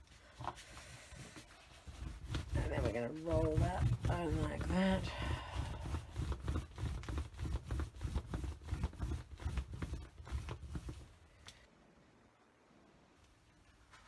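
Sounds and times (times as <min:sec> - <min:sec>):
paint roller tacky crackle: 0:00.0 - 0:11.5.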